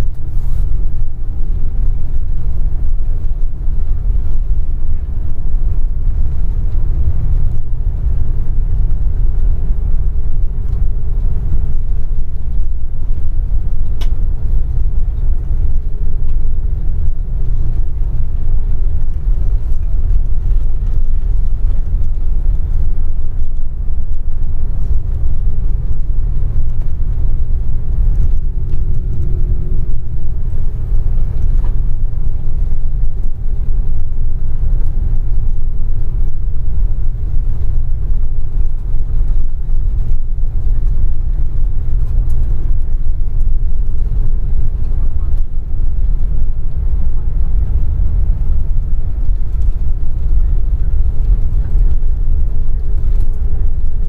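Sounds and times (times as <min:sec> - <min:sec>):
bus engine and tyre rumble: 0:00.0 - 0:54.0.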